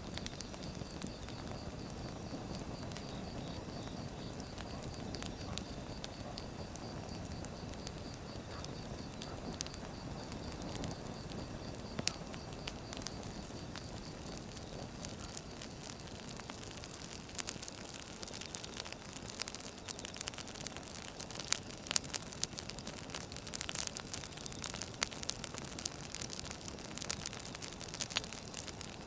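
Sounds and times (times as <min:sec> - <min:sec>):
sharp pops and snaps of fire: 0:00.0 - 0:29.0
wood fire crackling: 0:00.0 - 0:29.0.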